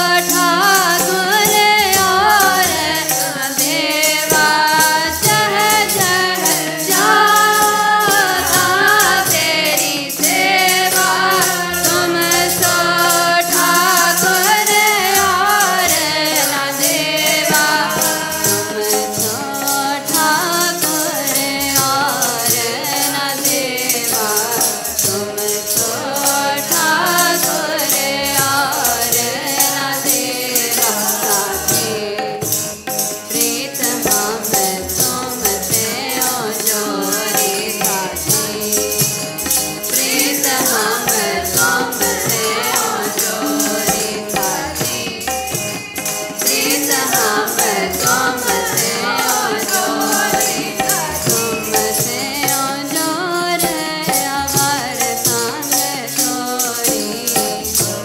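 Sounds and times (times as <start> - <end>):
person singing: 0.0 - 32.8, 33.4 - 58.0
harmonium chords: 0.0 - 58.0
tabla beat: 0.0 - 58.0.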